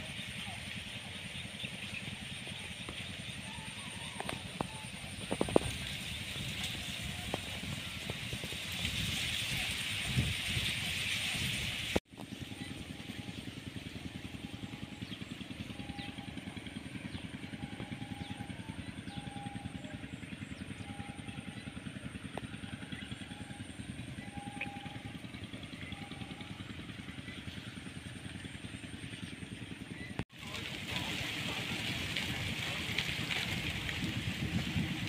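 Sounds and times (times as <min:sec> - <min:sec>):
small engine idling: 0:00.0 - 0:35.0.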